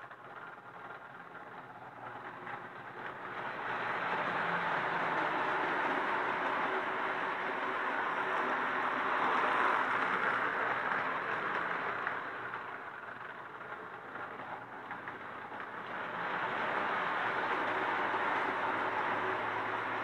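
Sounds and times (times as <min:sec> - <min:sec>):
toy train whirring clatter: 0:00.0 - 0:20.0.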